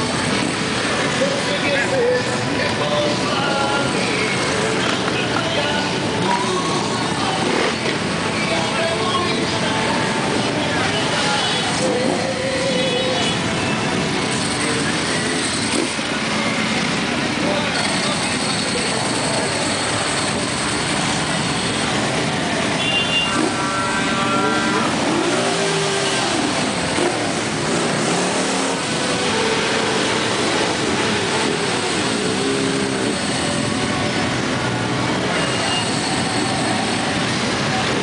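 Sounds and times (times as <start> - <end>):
motorcycle engines revving: 0.0 - 38.0.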